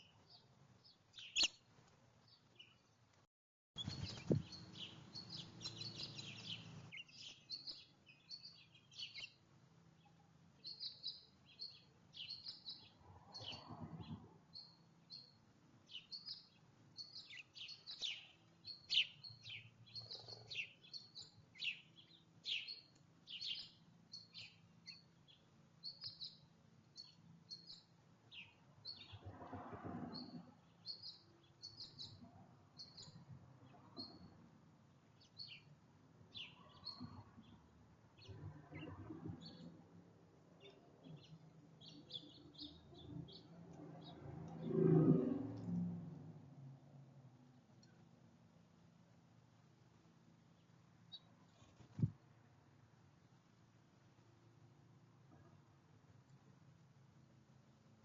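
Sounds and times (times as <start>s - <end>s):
songbirds chirping: 0.0s - 46.6s, 47.3s - 58.0s.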